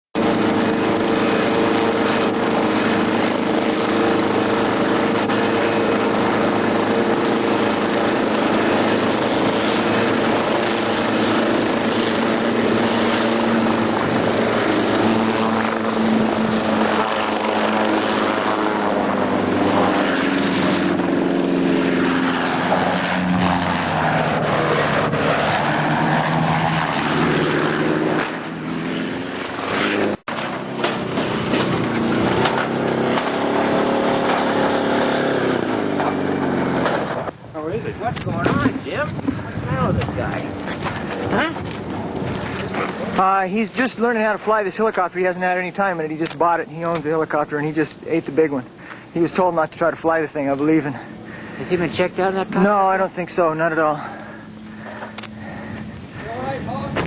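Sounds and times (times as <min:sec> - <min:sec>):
helicopter engine and rotor: 0:00.1 - 0:57.0.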